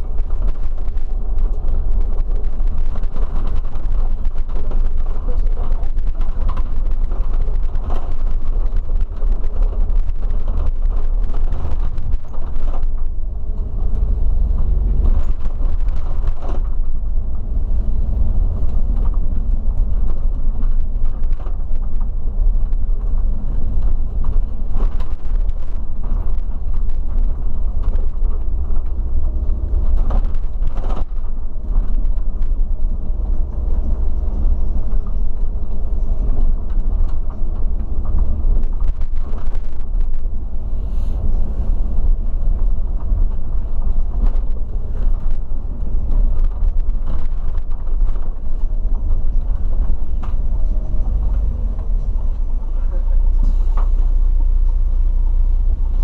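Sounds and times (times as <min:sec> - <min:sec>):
bodywork creaks and rattles: 0:00.0 - 0:55.8
engine and road rumble: 0:00.0 - 0:56.0.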